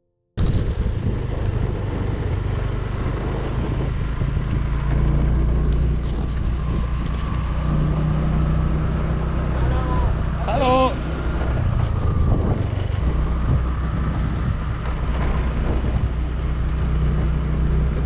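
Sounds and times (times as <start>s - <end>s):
scooter engine running: 0.4s - 18.0s
wind rushing over microphone: 0.4s - 18.0s.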